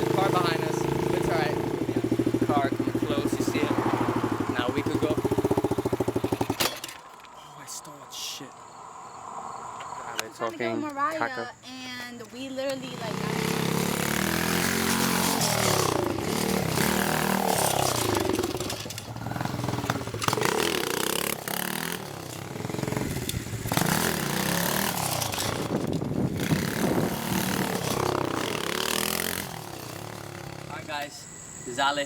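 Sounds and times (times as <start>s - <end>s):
dirt bike engine revving: 0.0s - 6.8s, 12.8s - 32.0s.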